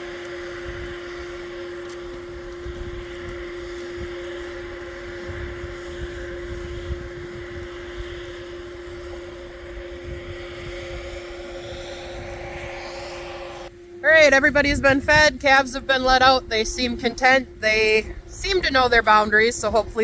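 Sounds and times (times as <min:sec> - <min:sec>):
irregular low rumble: 0:00.0 - 0:17.4
machine humming: 0:00.0 - 0:19.8.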